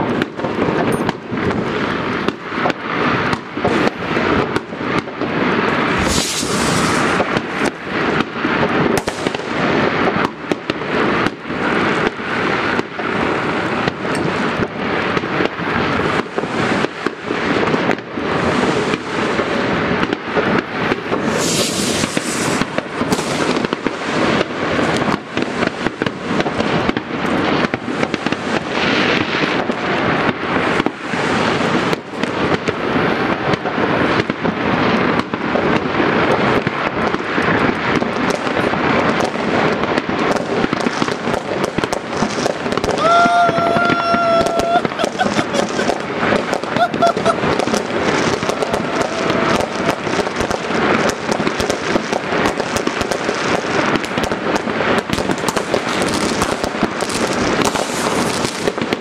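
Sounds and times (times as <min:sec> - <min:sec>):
fireworks bangs and crackles: 0:00.0 - 0:59.0
firework hiss: 0:00.1 - 0:59.0.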